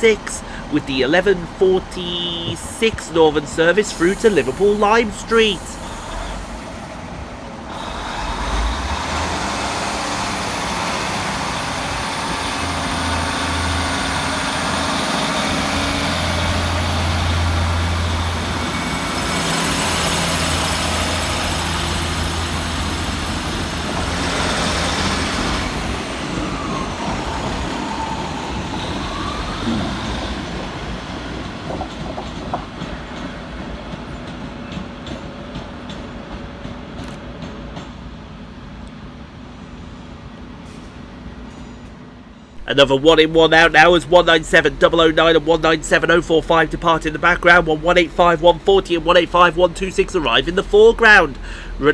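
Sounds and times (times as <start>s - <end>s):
diesel train engines working: 0.0s - 51.9s.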